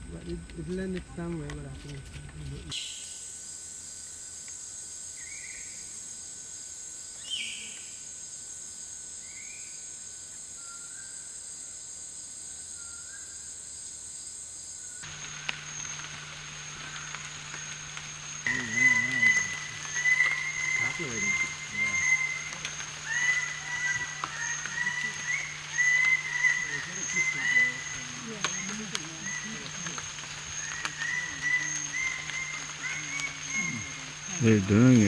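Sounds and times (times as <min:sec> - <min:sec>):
steady hiss with thin high tone: 0:00.0 - 0:35.0
high-pitched insect buzz: 0:02.0 - 0:35.0.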